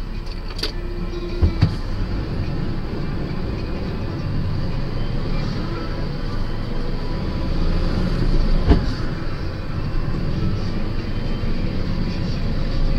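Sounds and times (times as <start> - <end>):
vehicle engine and tyres rumbling: 0.0 - 12.9.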